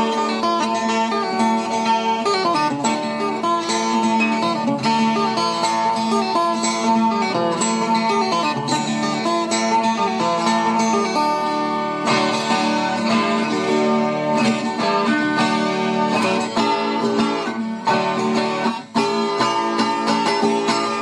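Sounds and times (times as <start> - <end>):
plucked folk guitar music: 0.0 - 21.0.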